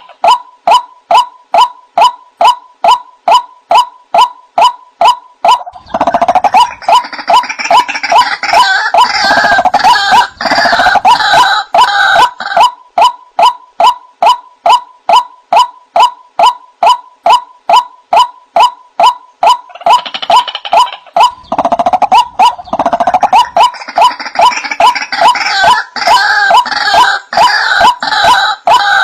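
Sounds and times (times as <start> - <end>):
chorus of bird calls: 0.0 - 29.0.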